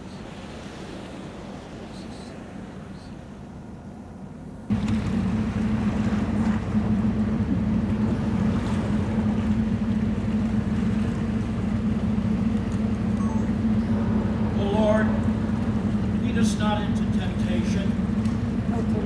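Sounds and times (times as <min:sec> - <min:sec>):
ship machinery hum and rushing: 0:00.0 - 0:19.0.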